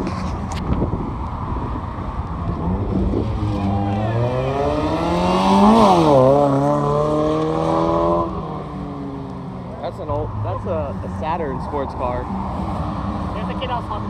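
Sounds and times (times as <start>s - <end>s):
sports car engine accelerating past: 2.3s - 14.0s.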